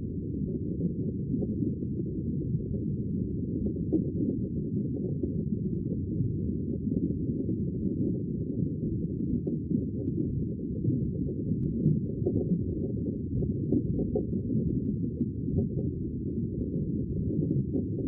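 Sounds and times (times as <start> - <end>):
muffled rumble of sea water: 0.0 - 18.0.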